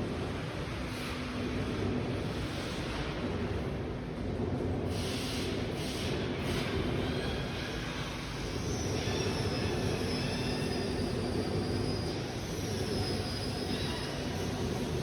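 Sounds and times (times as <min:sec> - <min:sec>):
workshop machinery hum: 0:00.0 - 0:15.0.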